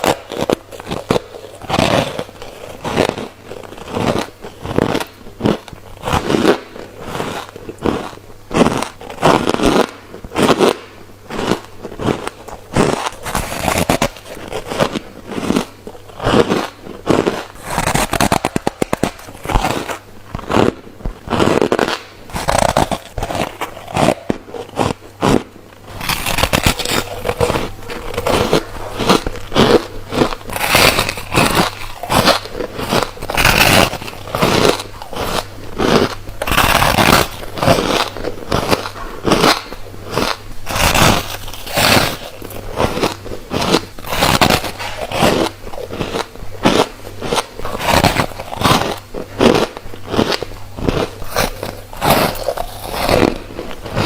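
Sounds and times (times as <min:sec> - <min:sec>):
chewing crisp frost crunches: 0:00.0 - 0:54.0.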